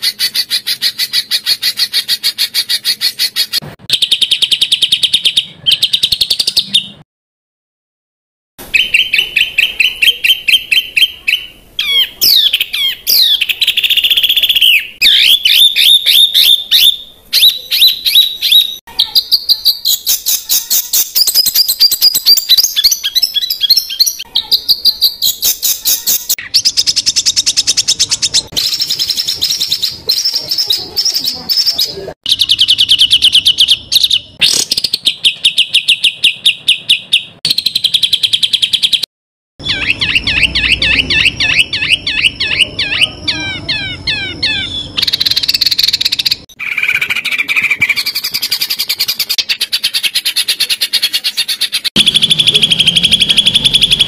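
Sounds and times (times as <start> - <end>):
songbird singing harsh trills: 0.0 - 7.0, 8.6 - 54.0.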